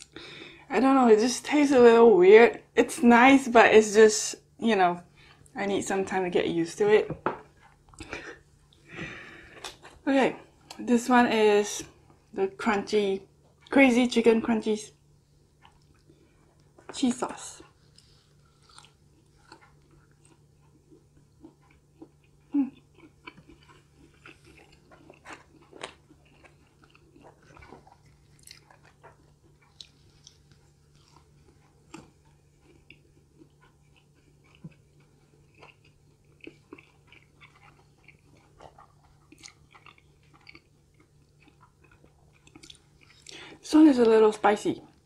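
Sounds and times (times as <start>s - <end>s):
faint low hum: 0.0s - 45.0s
chewing crunchy fried chicken: 7.4s - 45.0s.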